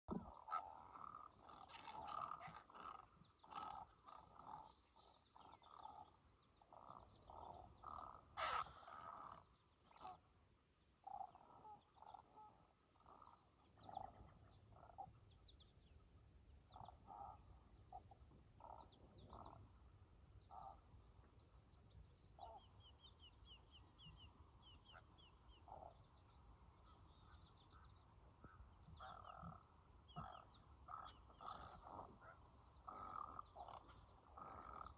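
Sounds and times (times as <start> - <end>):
herons croaking: 0.1 - 10.3, 11.0 - 15.5, 16.6 - 21.5, 22.3 - 34.9.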